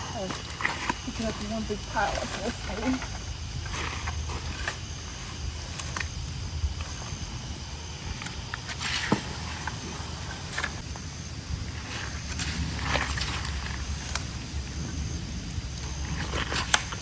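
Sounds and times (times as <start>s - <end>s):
low steady rumble: 0.0s - 17.0s
sticks and leaves rustling and cracking: 0.1s - 11.1s, 11.8s - 17.0s.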